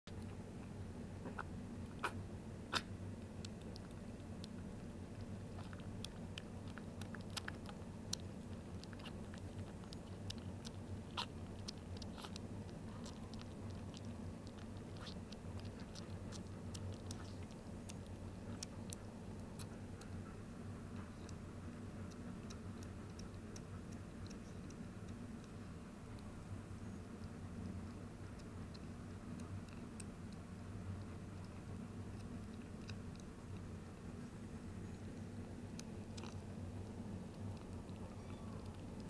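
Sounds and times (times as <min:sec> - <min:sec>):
kitten eating wet food: 0:00.1 - 0:39.0
steady low hum: 0:00.1 - 0:39.0.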